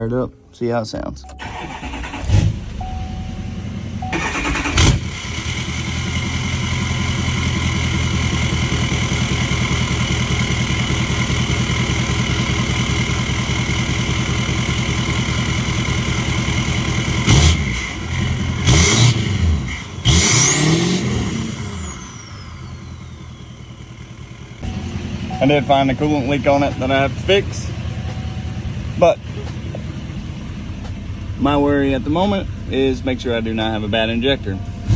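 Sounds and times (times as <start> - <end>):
diesel engine cranking and idling: 1.2 - 34.9
engine revving: 1.4 - 34.9.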